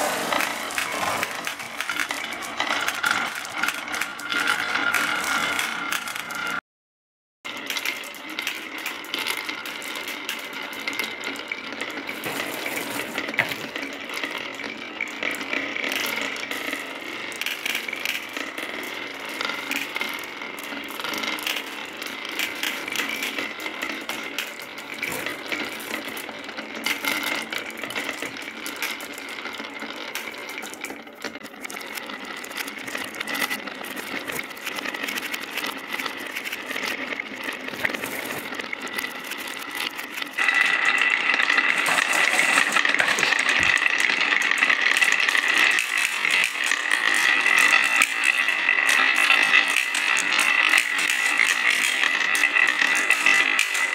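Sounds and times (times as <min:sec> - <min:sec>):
marbles rattling down wooden tracks: 0:00.0 - 0:06.6, 0:07.5 - 0:53.9.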